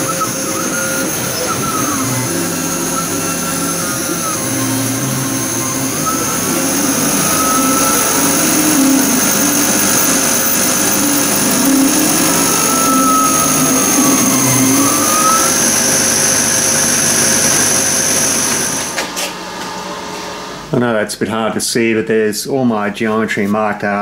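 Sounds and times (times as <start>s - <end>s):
laser engraver machine rush: 0.0s - 19.4s
drive motors whining: 0.0s - 20.7s.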